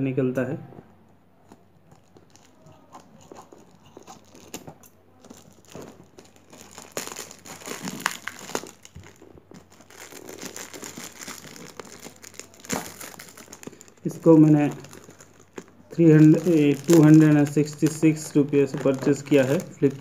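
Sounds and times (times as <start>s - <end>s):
plastic mailer package crinkling: 1.9s - 20.0s.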